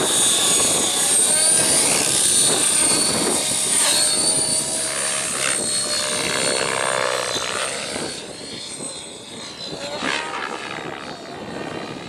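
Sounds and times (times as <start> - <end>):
rc helicopter motor whine: 0.0 - 12.0
spinning rotor blades: 0.0 - 12.0.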